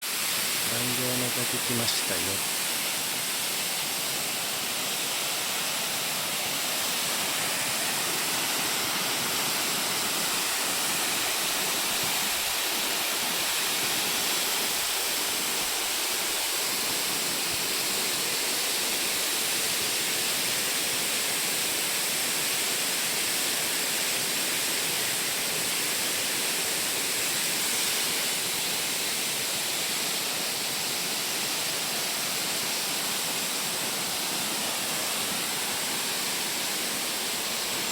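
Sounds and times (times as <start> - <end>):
waterfall hiss: 0.0 - 37.9.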